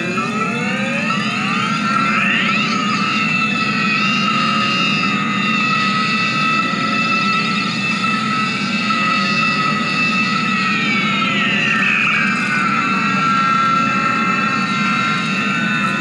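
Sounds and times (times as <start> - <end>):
high electronic drone tones: 0.0 - 16.0.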